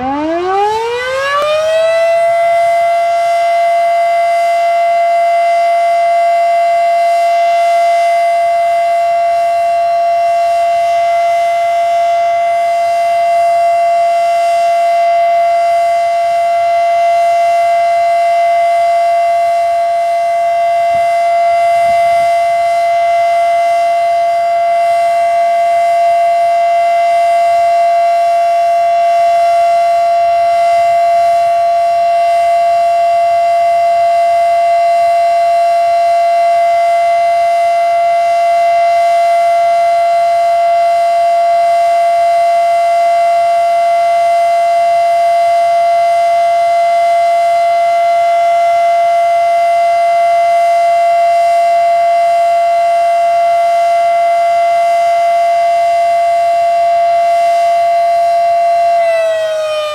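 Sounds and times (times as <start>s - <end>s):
warning siren: 0.0s - 59.9s.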